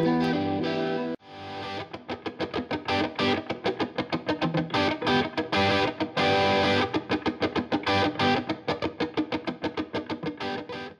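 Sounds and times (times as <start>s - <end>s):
distorted electric guitar: 0.0s - 10.9s.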